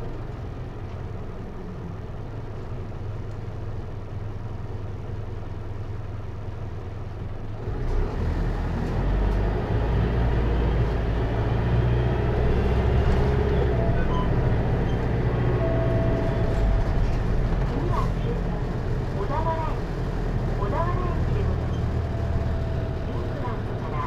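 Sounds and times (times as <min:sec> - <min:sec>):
diesel engine idling and revving: 0:00.0 - 0:24.0.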